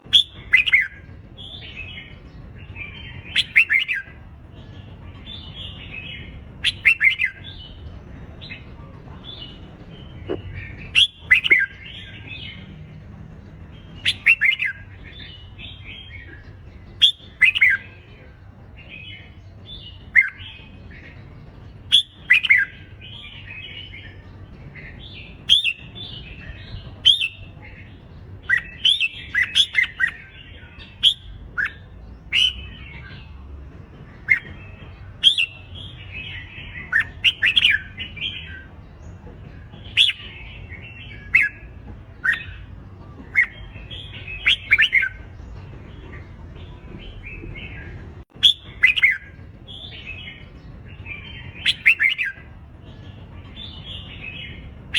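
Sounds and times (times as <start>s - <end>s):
bulbuls singing: 0.0s - 54.9s.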